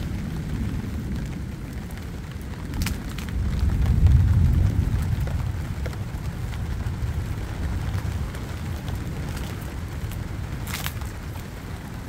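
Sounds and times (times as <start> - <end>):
distant thunder rumbling: 0.0 - 10.7
rain shower: 0.0 - 12.0.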